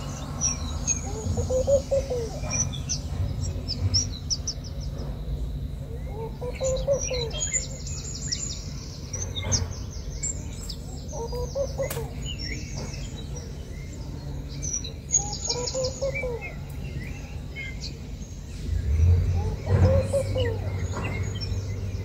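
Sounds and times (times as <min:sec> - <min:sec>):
steady low hum: 0:00.0 - 0:22.0
warbling bird calls: 0:00.0 - 0:22.0.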